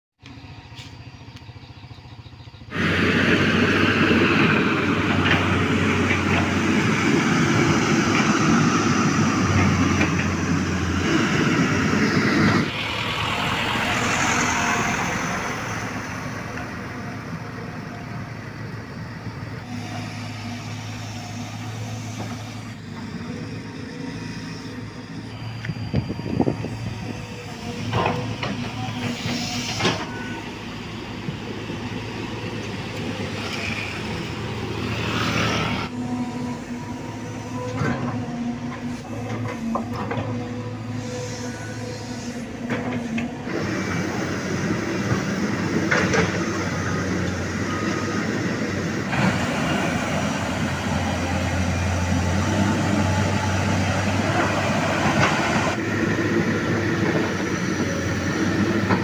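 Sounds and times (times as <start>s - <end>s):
excavator diesel engine running: 0.2s - 59.0s.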